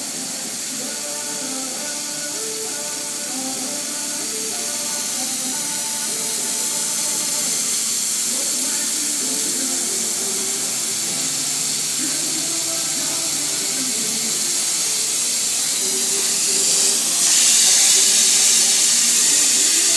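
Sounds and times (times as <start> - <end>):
steady hiss of air: 0.0 - 19.9.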